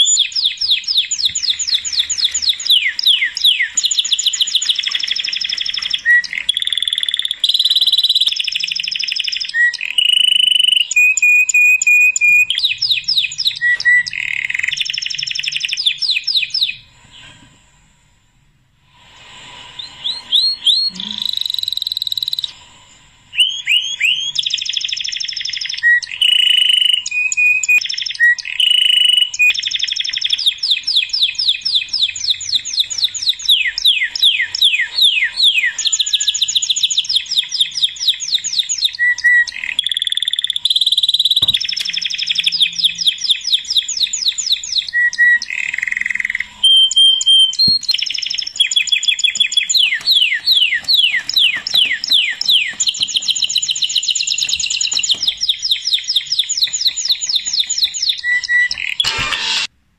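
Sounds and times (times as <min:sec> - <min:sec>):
songbird singing trills: 0:00.0 - 0:16.8, 0:23.4 - 0:59.0.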